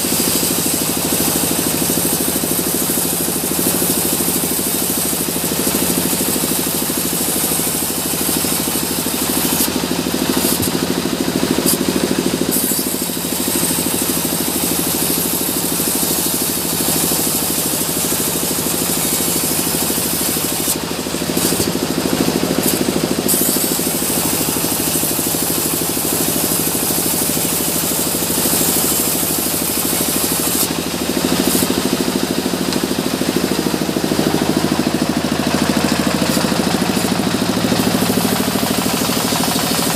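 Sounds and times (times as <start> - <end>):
bandsaw running: 0.0 - 39.9
machinery humming: 0.0 - 39.9
saw blade hissing through log: 0.0 - 39.9.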